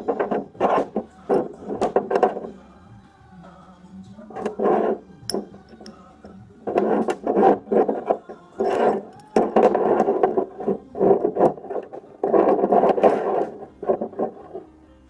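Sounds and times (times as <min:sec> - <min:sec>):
steel scraping on concrete: 0:00.0 - 0:02.6, 0:04.3 - 0:14.8.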